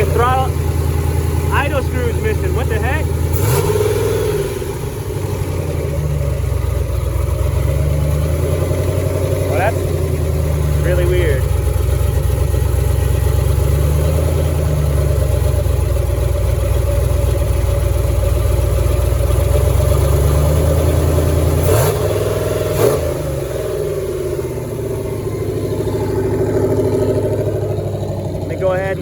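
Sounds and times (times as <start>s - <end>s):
car engine high idle: 0.0s - 29.0s.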